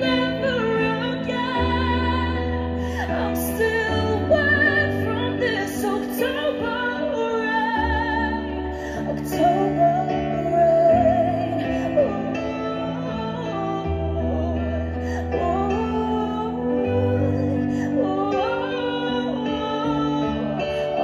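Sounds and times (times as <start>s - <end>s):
woman singing a slow ballad: 0.0s - 21.0s.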